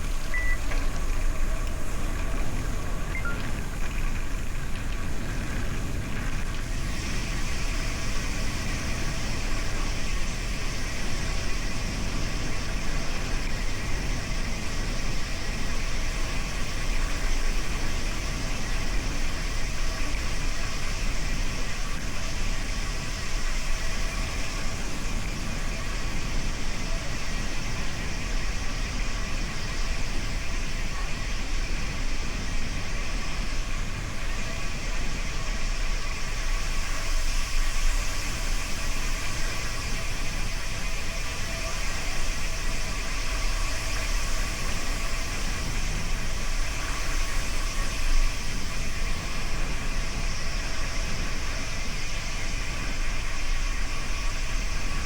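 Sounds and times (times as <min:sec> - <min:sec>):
wind and riding noise: 0:00.0 - 0:55.0.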